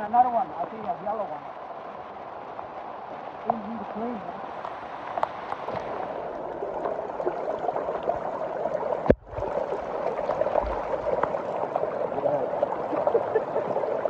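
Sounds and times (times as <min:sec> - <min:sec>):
water flowing and gurgling: 0:00.0 - 0:14.0.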